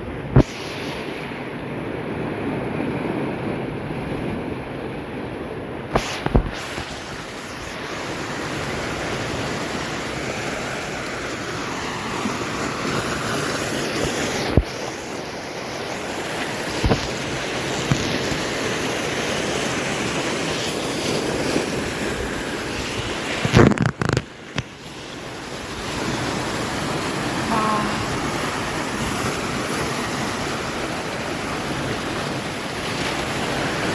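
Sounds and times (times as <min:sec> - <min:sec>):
wind on microphone: 0:00.0 - 0:10.2, 0:10.8 - 0:33.9
ocean waves washing in: 0:00.0 - 0:33.9.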